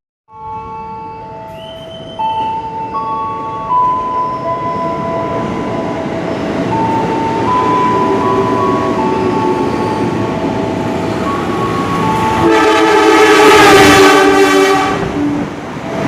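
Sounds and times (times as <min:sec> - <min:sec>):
long steady melodic tones: 0:00.3 - 0:16.0
train rumbling: 0:00.4 - 0:16.0.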